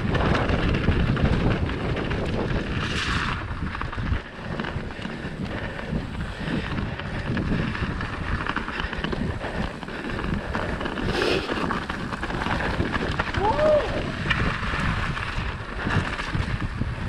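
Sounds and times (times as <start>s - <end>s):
bike rattling and knocking: 0.0s - 17.0s
tyres rolling on snow and dirt: 0.0s - 17.0s
wind buffeting microphone: 0.0s - 17.0s.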